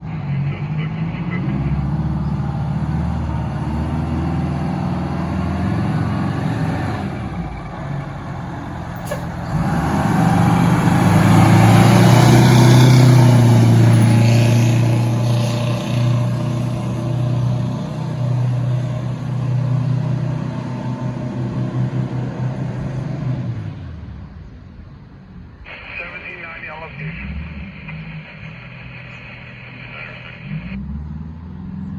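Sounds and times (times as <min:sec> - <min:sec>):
diesel engine pulling out: 0:00.0 - 0:31.9.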